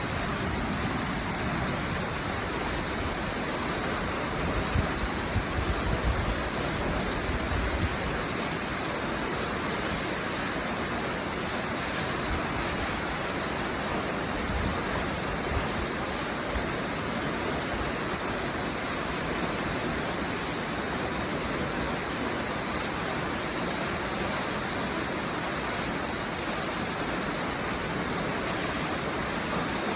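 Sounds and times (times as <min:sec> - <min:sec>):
rushing water roar: 0:00.0 - 0:29.9.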